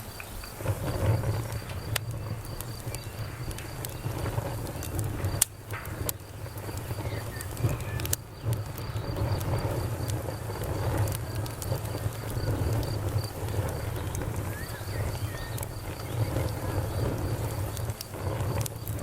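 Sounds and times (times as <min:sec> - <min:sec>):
campfire crackling and popping: 0:00.0 - 0:19.0
crickets chirping: 0:00.0 - 0:19.0.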